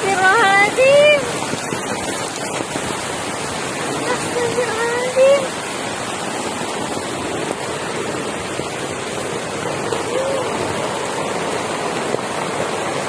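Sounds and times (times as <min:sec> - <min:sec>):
hail and rain falling: 0:00.0 - 0:13.0.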